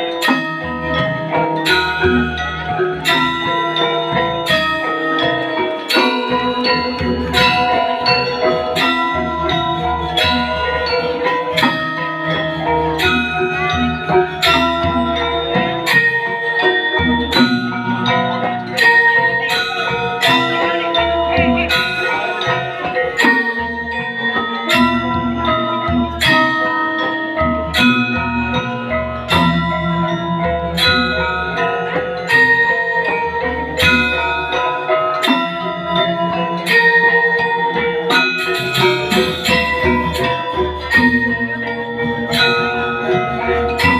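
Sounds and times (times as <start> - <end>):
bronze metallophones ringing: 0.0 - 43.9.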